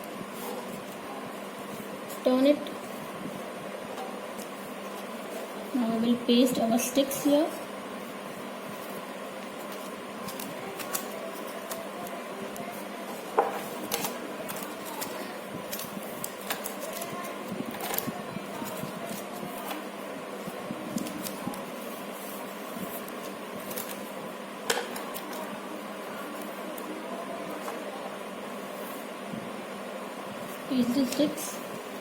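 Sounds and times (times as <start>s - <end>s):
steady background noise: 0.0s - 32.0s.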